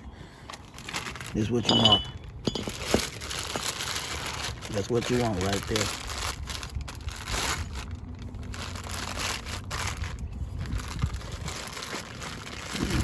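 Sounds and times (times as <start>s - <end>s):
rustling crinkling handling noise: 0.2s - 13.0s.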